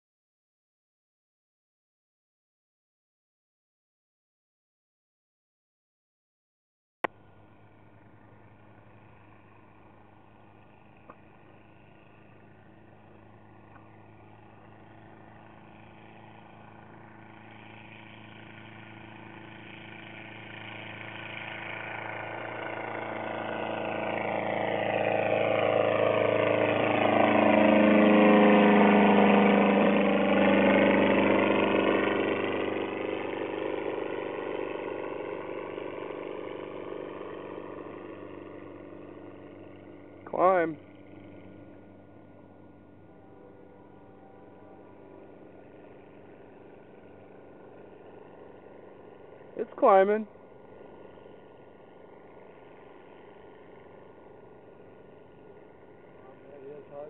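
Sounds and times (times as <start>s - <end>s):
ultralight plane engine and propeller: 7.0s - 57.0s.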